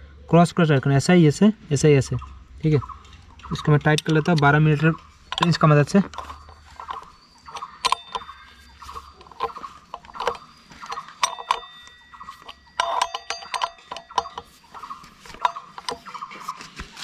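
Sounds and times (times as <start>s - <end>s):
spanner clinking on metal bolts: 3.0s - 16.7s.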